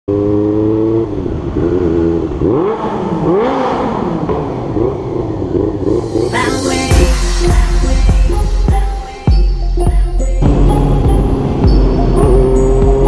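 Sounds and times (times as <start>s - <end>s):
motorcycle engine idling and revving: 0.1s - 13.0s.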